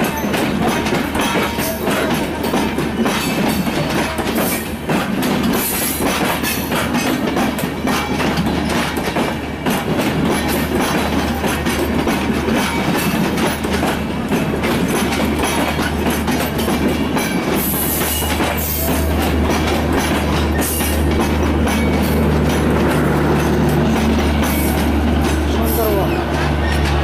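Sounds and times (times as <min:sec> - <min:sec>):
train rumble: 0:00.0 - 0:27.0
train wheels clicking on rail joints: 0:00.0 - 0:27.0.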